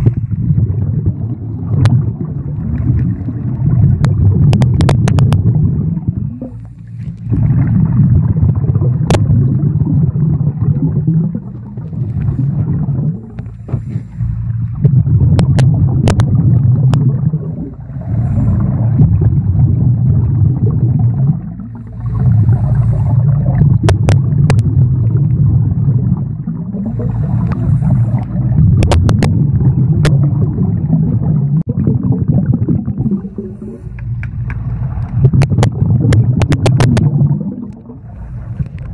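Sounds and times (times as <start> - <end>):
underwater regulator breathing and bubbles: 0.0 - 38.9.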